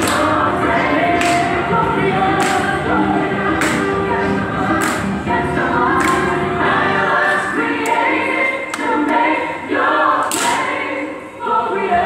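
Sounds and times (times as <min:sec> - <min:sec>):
choir singing a cappella: 0:00.0 - 0:12.0.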